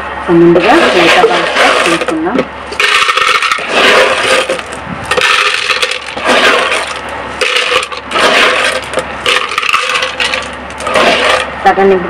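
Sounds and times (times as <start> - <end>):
clay balls clattering on plastic: 0.6 - 11.5.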